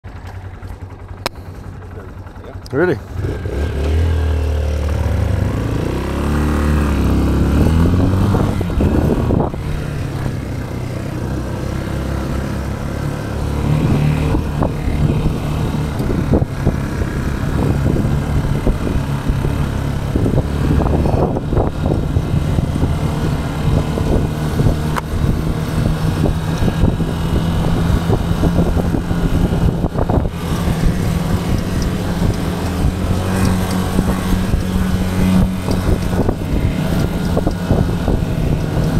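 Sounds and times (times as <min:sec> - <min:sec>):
motorcycle engine: 0:00.0 - 0:38.9
wind noise: 0:05.0 - 0:38.9.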